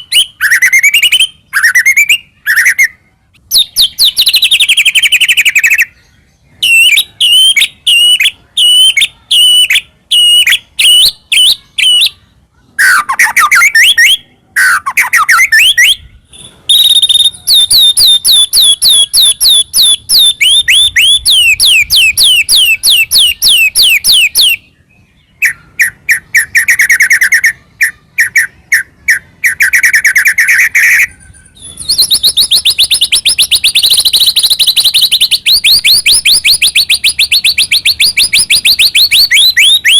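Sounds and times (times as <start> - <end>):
bird singing in phrases: 0.0 - 39.9.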